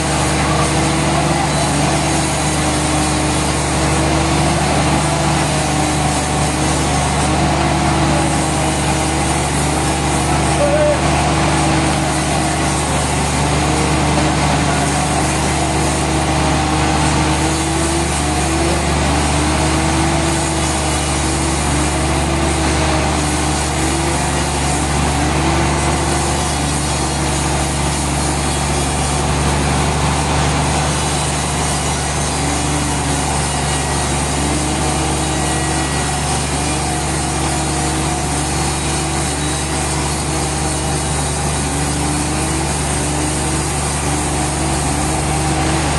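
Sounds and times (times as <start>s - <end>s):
sawmill machine drone: 0.0s - 45.9s.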